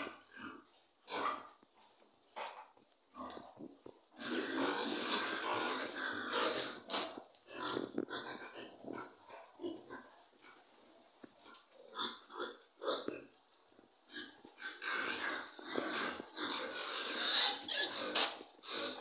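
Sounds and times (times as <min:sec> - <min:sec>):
piglets grunting: 0:00.0 - 0:01.6, 0:03.2 - 0:10.7, 0:11.4 - 0:13.4, 0:14.1 - 0:19.0.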